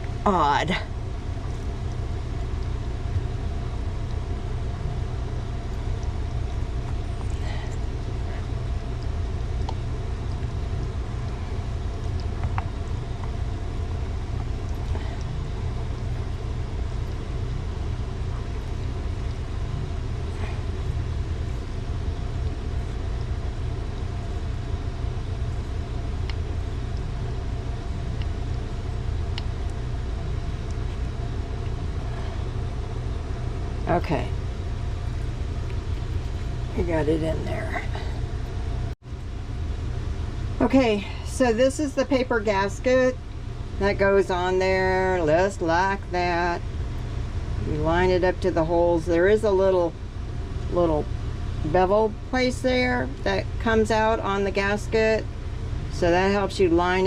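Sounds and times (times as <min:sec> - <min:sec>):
low mechanical drone: 0:00.0 - 0:57.0.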